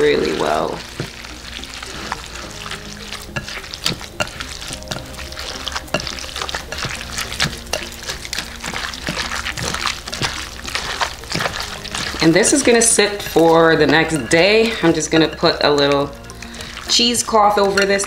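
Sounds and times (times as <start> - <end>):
hands squelching wet vegetables: 0.0 - 18.0.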